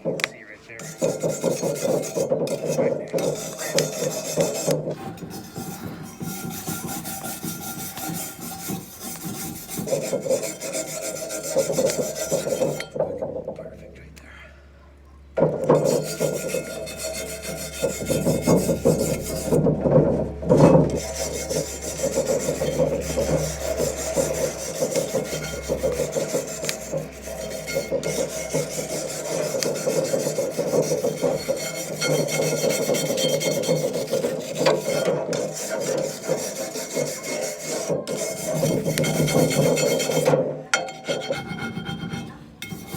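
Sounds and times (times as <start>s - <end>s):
wire brush scrubbing metal pan: 0.0s - 13.8s, 15.4s - 42.9s.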